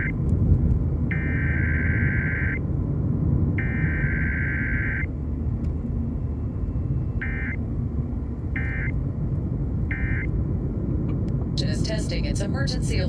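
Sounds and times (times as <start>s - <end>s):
low rumbling static: 0.0s - 13.0s.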